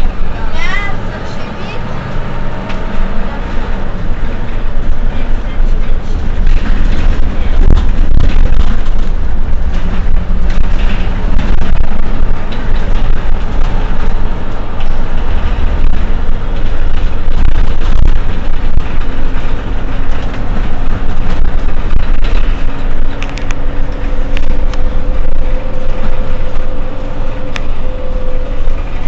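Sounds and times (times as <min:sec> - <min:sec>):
bus diesel engine rumble: 0:00.0 - 0:29.0
whine: 0:02.4 - 0:29.0.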